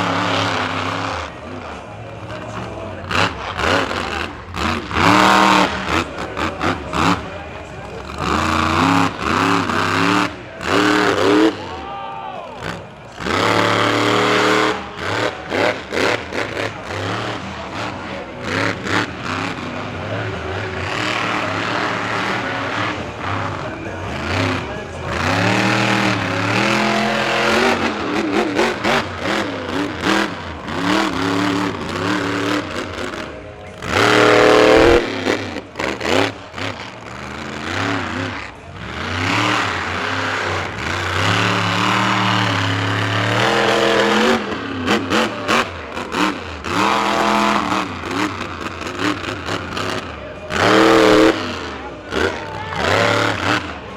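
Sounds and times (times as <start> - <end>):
monster truck engine revving: 0.0 - 53.9.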